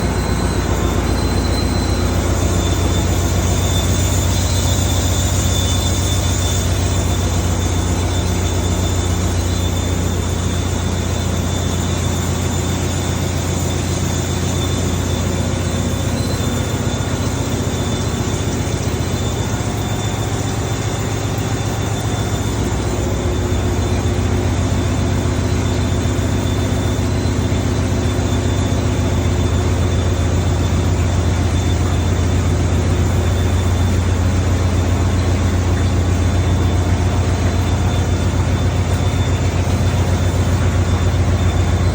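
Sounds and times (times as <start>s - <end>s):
diesel engine droning: 0.0s - 41.9s
high whine: 0.0s - 41.9s.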